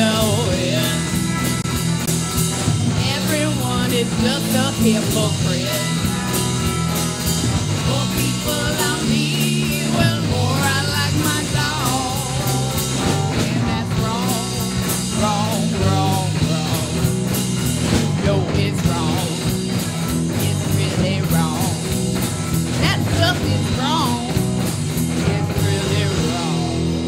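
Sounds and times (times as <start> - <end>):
bass: 0.0 - 27.0
drums: 0.0 - 27.0
lead guitar line bending: 0.0 - 27.0.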